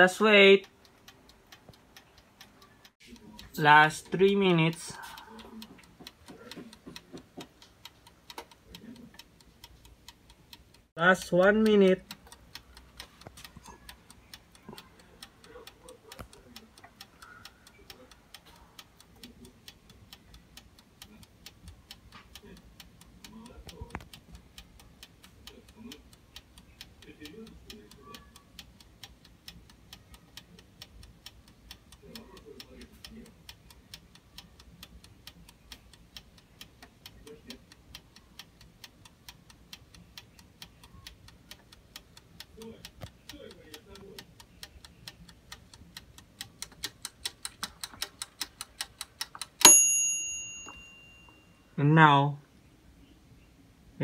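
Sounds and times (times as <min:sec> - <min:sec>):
wind-up timer ticking: 0:00.0 - 0:52.2.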